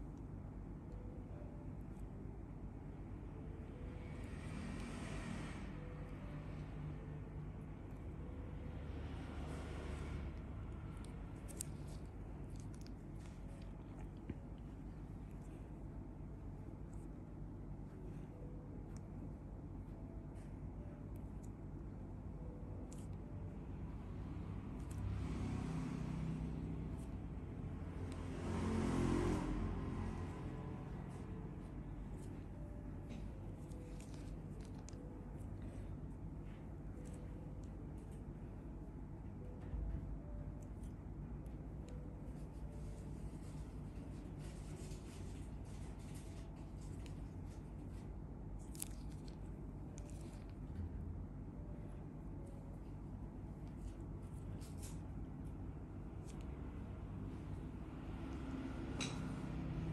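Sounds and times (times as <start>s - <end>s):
low steady hum: 0.0s - 59.9s
vehicle engine rumble passing: 3.3s - 16.1s, 22.4s - 59.9s.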